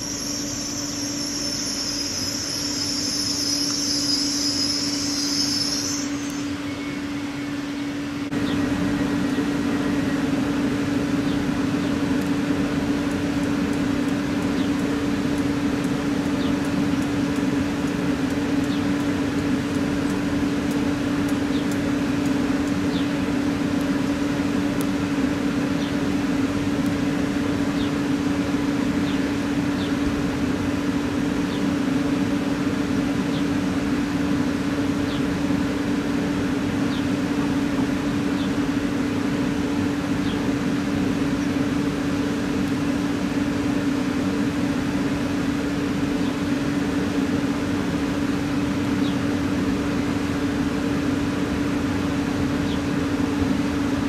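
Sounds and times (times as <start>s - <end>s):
electric train humming: 0.0s - 54.0s.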